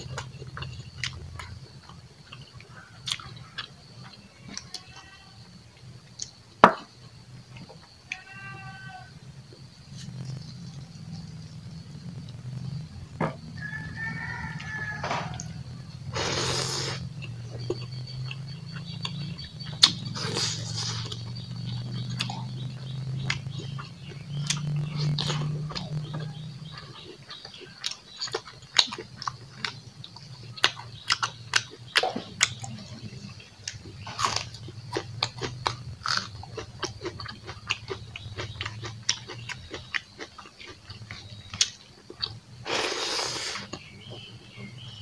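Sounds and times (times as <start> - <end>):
man chewing food: 0.0 - 5.1, 9.4 - 44.6.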